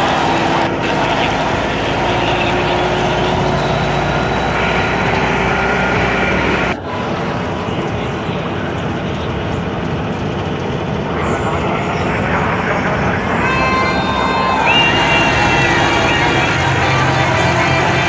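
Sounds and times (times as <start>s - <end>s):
moving vehicle running noise: 0.0s - 18.0s.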